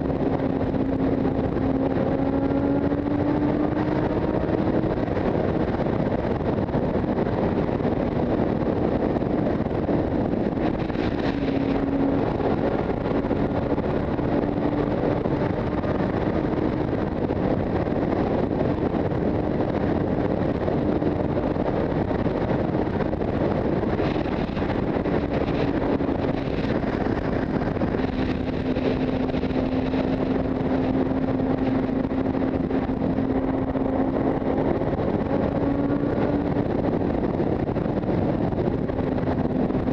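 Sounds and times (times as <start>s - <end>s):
motorcycle engine drone: 0.0s - 39.9s
wind and road noise: 0.0s - 39.9s.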